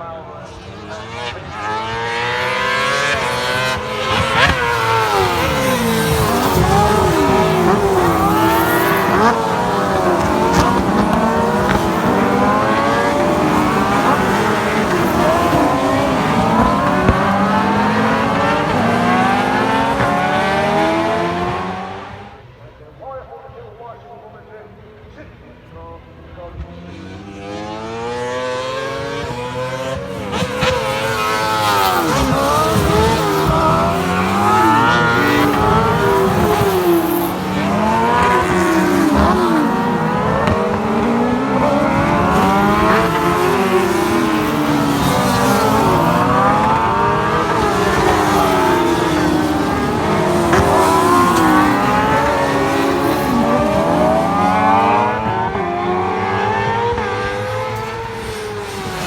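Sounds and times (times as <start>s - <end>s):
racing engines passing at speed: 0.0s - 22.6s, 26.2s - 59.0s.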